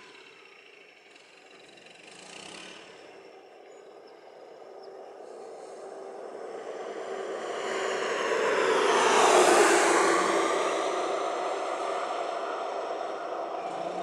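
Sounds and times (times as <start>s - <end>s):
vehicle engine running: 0.4s - 14.0s.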